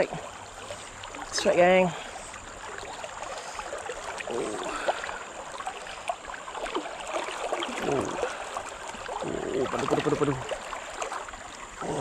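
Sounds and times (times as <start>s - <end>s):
river water rushing and gurgling: 0.0s - 12.0s
small water splashes: 0.0s - 12.0s.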